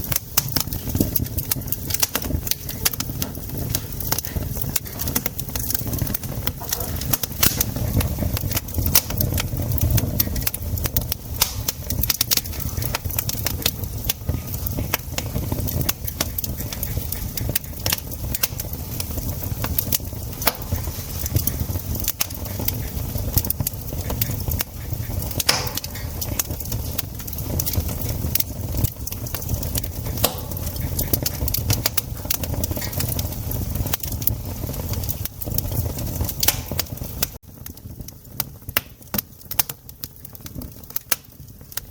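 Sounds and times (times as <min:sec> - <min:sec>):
campfire crackling and popping: 0:00.0 - 0:41.9
low rumble: 0:00.8 - 0:37.4.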